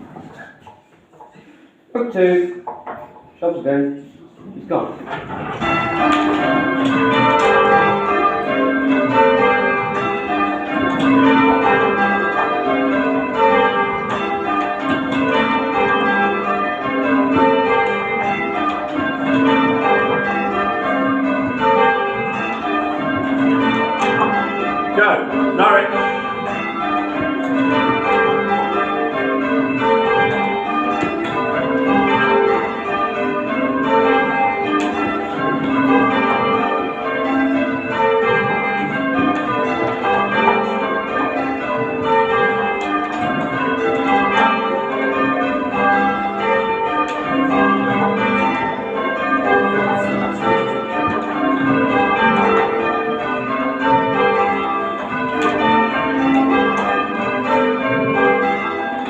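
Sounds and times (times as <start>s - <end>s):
church bells change-ringing: 4.7s - 59.0s.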